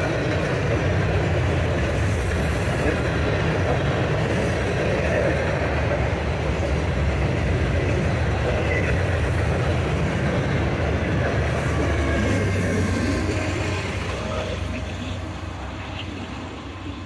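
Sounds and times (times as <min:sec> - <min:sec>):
freight train cars rumbling: 0:00.0 - 0:17.0
locomotive passing: 0:00.0 - 0:17.0.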